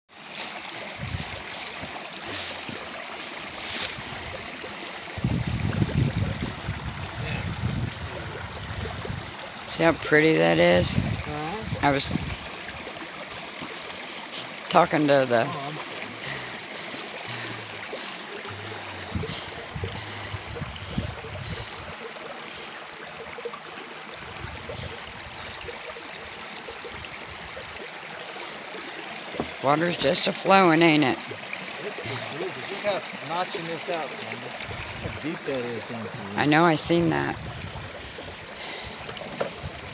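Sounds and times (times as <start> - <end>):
creek water flowing: 0.1 - 39.9.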